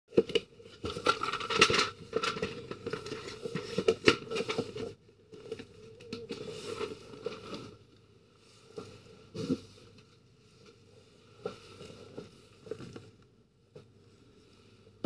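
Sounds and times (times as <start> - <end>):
rustling and crinkling: 0.1 - 15.0.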